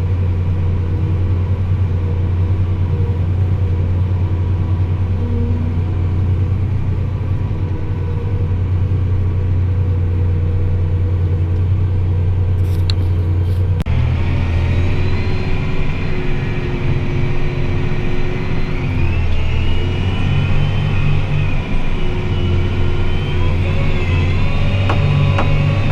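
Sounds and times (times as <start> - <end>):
high engine whine: 0.0 - 25.9
tractor engine droning: 0.0 - 25.9.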